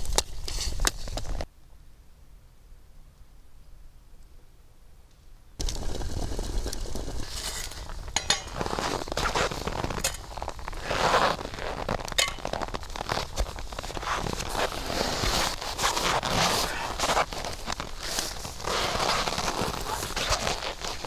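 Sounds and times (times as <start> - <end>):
rustling and crackling: 0.0 - 1.5, 5.1 - 21.0.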